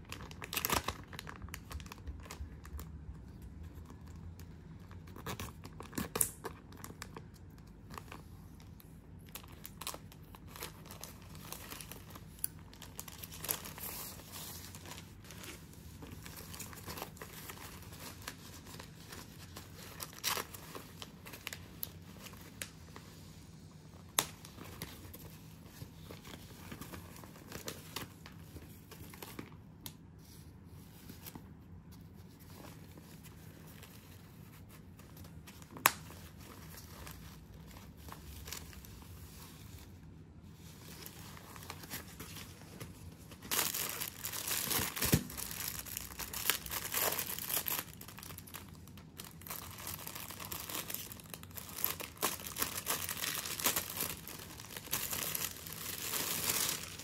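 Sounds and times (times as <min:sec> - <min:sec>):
plastic packaging crinkling: 0:00.0 - 0:23.3, 0:23.9 - 0:30.1, 0:30.9 - 0:57.0.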